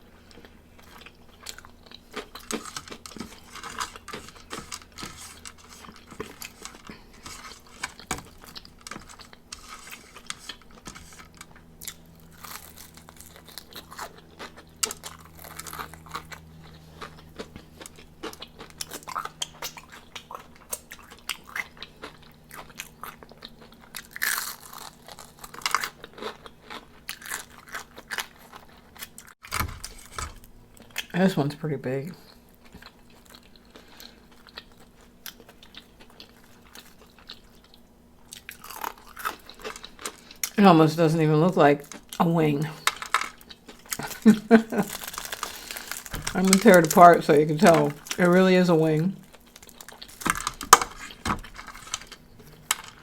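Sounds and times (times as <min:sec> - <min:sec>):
crunchy chewing of fried chicken: 0:00.0 - 0:31.2, 0:32.0 - 0:40.6, 0:41.7 - 0:53.0.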